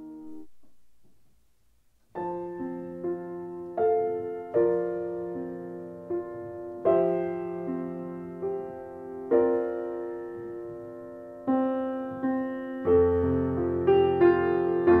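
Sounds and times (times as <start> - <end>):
slow piano notes and chords: 0.0 - 1.3, 2.0 - 15.0.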